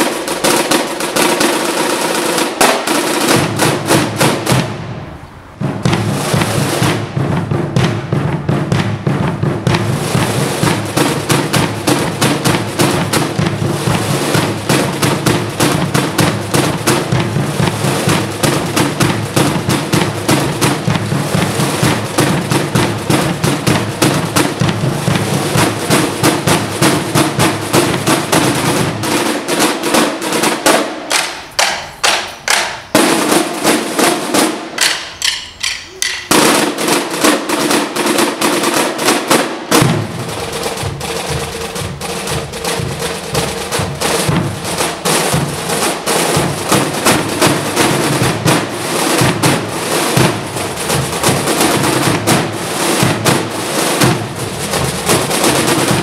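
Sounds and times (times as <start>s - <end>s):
side drums playing rolls: 0.0s - 56.0s.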